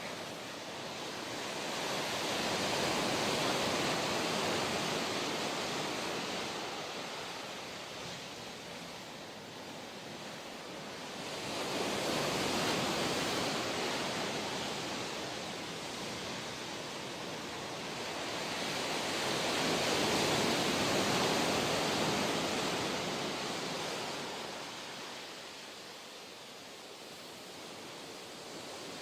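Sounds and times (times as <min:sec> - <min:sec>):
ocean surf breaking on shore: 0:00.0 - 0:29.0.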